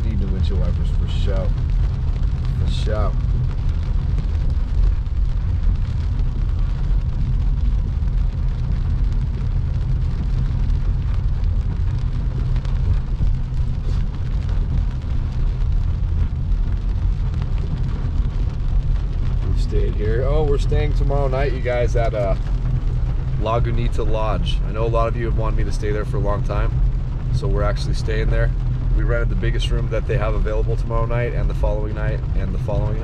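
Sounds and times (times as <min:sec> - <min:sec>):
car engine and road rumble: 0:00.0 - 0:33.0
tyres hissing on wet road: 0:00.0 - 0:33.0.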